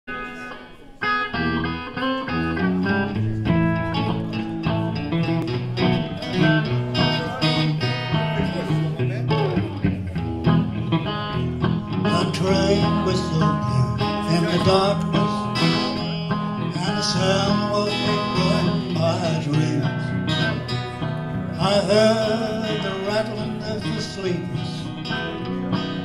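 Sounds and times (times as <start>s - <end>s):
acoustic guitar: 0.1s - 26.0s
electric guitar: 0.1s - 26.0s.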